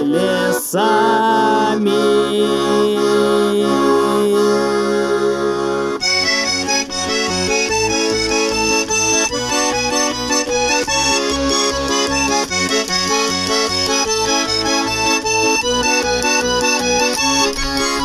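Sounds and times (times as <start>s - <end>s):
accordion playing: 0.0s - 18.0s.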